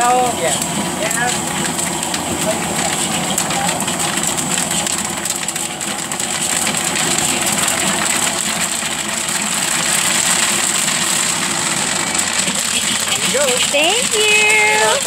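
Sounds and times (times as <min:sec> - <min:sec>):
constant high whine: 0:00.0 - 0:15.0
mechanical running noise: 0:00.0 - 0:15.0.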